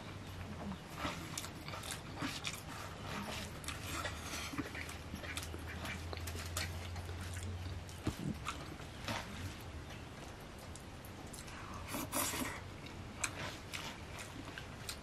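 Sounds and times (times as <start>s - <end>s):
low steady hum: 0.0s - 15.0s
man chewing wetly: 0.0s - 15.0s.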